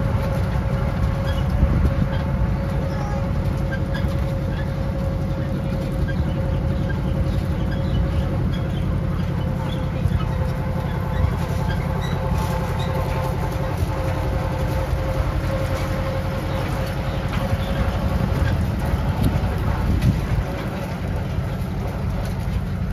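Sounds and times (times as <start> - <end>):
constant whine: 0.0 - 22.9
miniature train rumbling: 0.0 - 22.9.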